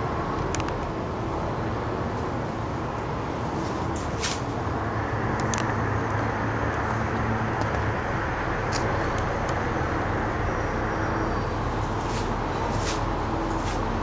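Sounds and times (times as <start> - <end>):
distant city traffic hum: 0.0 - 14.0.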